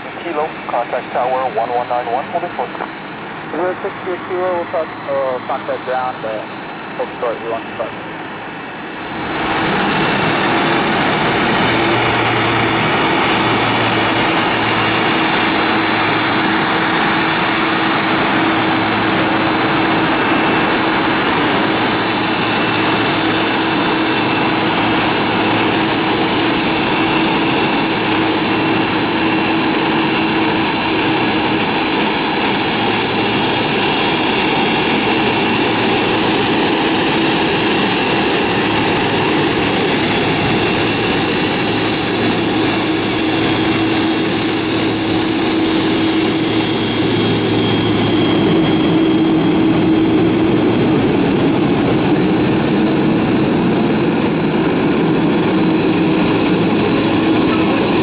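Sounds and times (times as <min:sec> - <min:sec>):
high-pitched engine whine: 0:00.0 - 0:58.0
jet engines rushing: 0:00.0 - 0:58.0.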